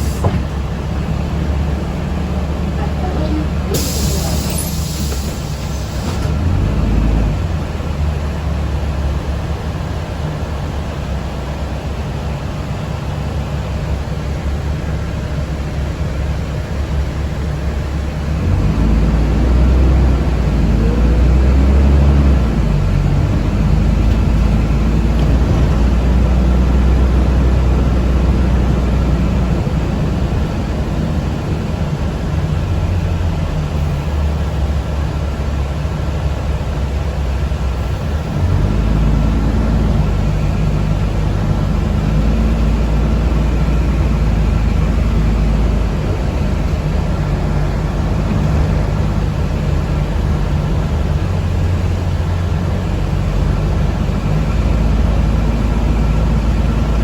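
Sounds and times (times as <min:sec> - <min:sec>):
transit vehicle rumble from inside: 0:00.0 - 0:57.0.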